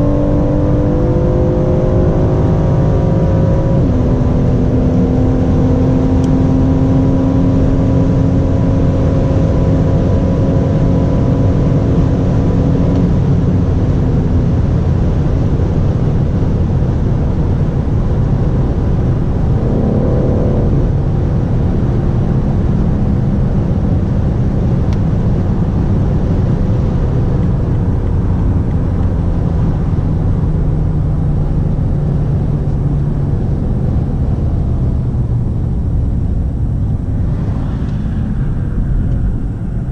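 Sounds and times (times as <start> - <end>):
car engine drone: 0.0 - 39.9
loud road rush: 0.0 - 39.9.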